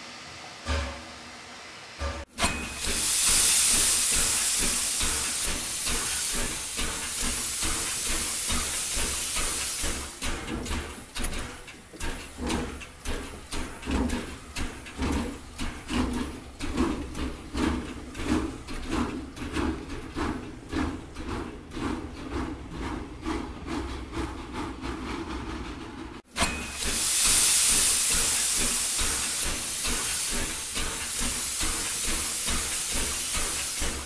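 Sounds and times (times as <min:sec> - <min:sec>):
steam locomotive hissing steam: 0:00.0 - 0:24.8, 0:26.2 - 0:34.0
steam locomotive chuffing: 0:00.0 - 0:34.0.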